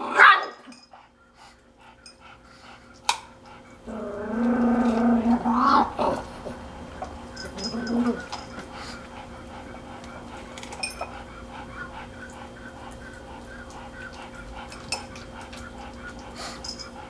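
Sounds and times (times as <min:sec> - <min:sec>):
puppy panting: 0:00.7 - 0:03.9, 0:06.2 - 0:17.0.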